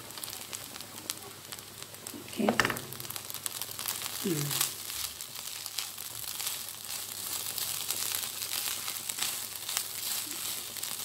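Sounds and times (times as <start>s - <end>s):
rice sizzling in a hot pan: 0.0s - 11.0s.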